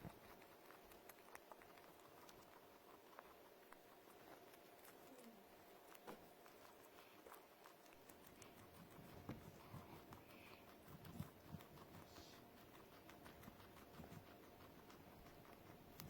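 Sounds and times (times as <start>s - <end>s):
small pet chewing: 0.0s - 16.0s.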